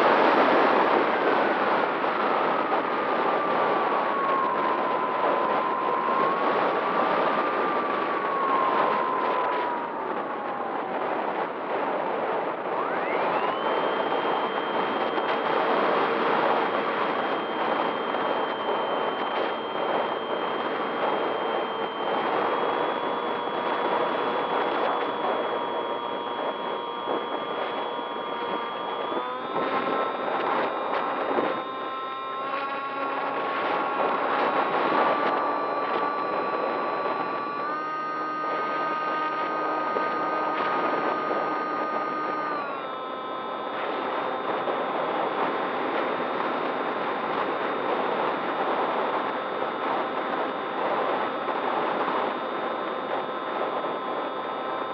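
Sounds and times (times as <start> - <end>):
model aircraft motor whine: 0.0 - 54.9.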